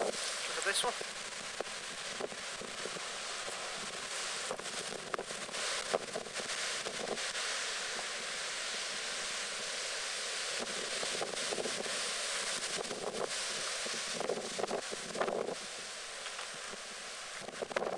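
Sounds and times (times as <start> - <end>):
breaking surf rushing: 0.0 - 17.9
wind buffeting microphone: 0.0 - 17.9.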